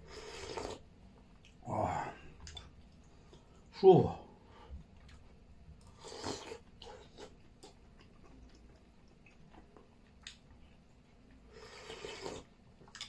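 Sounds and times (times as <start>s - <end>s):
man chewing food: 0.0s - 3.7s, 4.5s - 13.0s.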